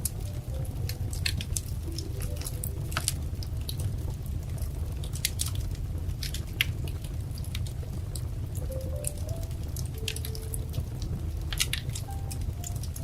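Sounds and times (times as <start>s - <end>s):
low rumble of burning fire: 0.0s - 13.0s
wood fire crackling and popping: 0.0s - 13.0s.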